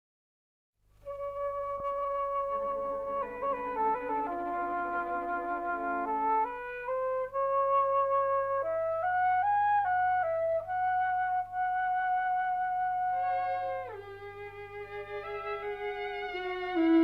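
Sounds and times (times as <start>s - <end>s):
slow solo flute melody: 1.0s - 17.0s.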